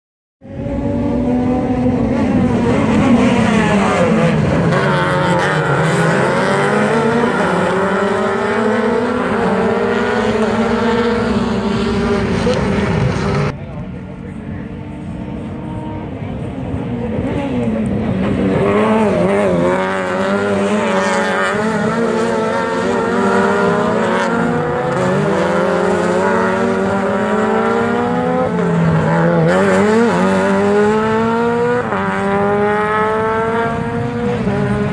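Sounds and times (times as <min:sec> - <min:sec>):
race cars accelerating at full throttle: 0:00.4 - 0:34.9.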